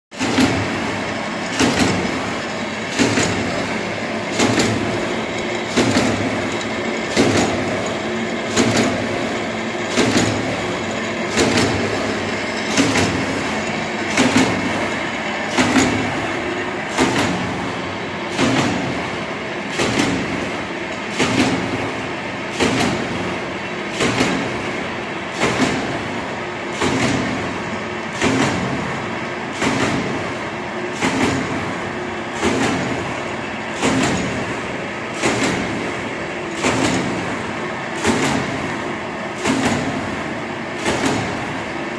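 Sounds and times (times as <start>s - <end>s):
machine clacking: 0.2s - 41.9s
machine whirring: 0.2s - 41.9s.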